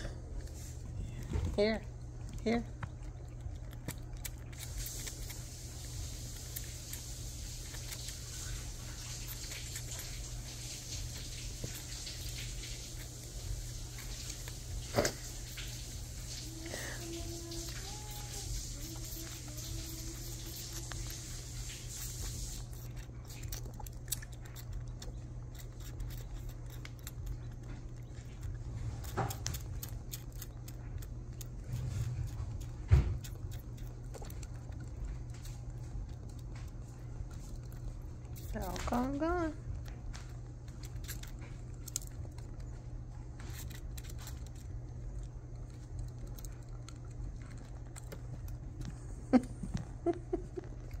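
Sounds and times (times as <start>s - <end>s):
low steady hum: 0.0s - 51.0s
squirrel suckling clicks and smacks: 0.3s - 51.0s.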